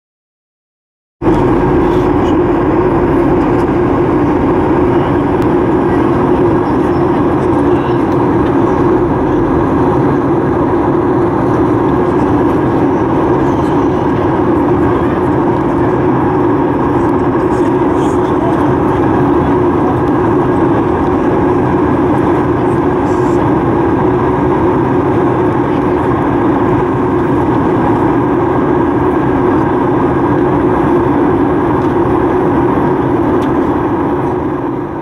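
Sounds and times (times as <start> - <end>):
airliner cabin engine noise: 1.2 - 35.0.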